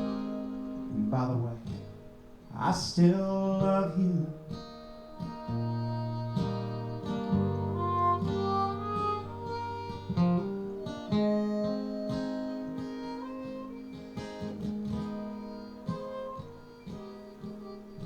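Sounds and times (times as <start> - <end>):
acoustic guitars playing country ballad: 0.0 - 18.0.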